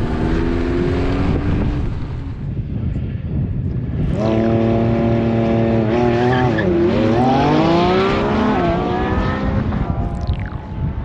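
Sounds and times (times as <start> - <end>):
engines accelerating hard: 0.0 - 2.4, 3.9 - 11.0.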